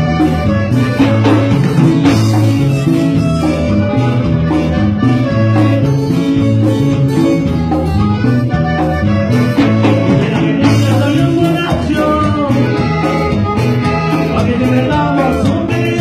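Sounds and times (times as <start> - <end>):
latin dance band music: 0.0 - 16.0.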